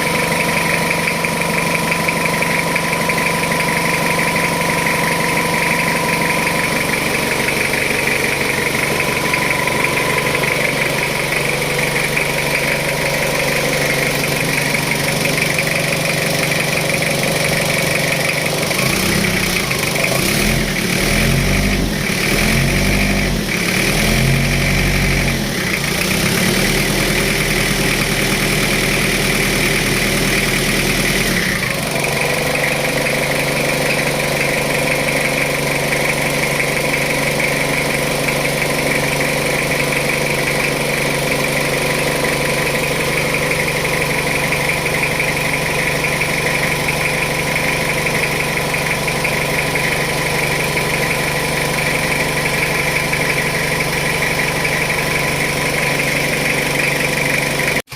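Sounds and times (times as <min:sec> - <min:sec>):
car engine running: 0:00.0 - 0:57.9
engine revving: 0:00.0 - 0:57.9.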